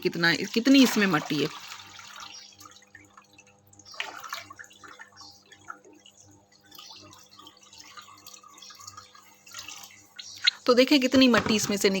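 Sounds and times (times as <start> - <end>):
water splashing and dripping: 0.7 - 12.0.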